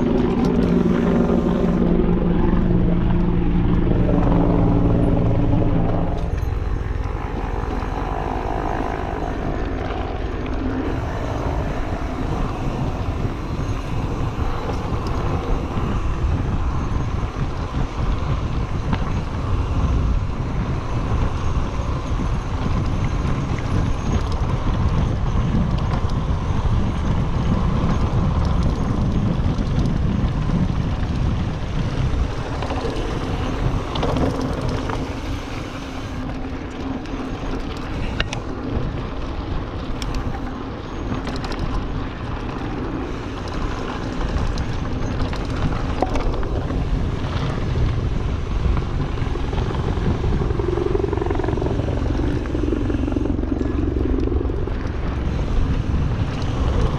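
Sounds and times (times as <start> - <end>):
bike rattling: 0.0 - 56.9
bike tyre rumble on dirt: 0.0 - 56.9
helicopter droning: 0.0 - 56.9
wind on microphone: 0.0 - 56.9.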